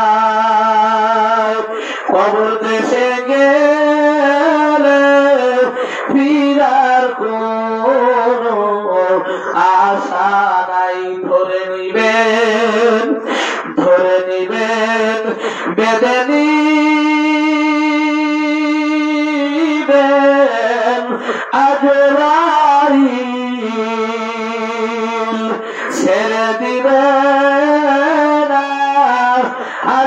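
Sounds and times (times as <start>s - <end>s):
man singing melodic chant: 0.0s - 30.0s.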